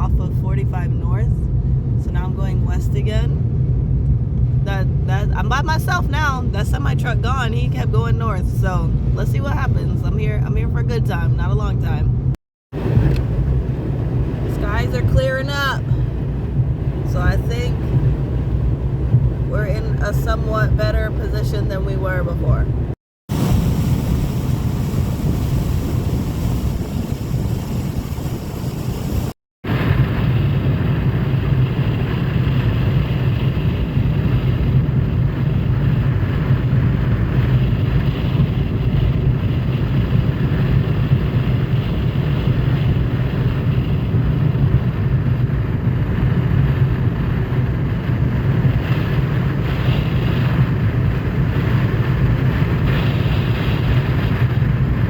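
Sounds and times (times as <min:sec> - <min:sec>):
car road noise: 0:00.0 - 0:55.0.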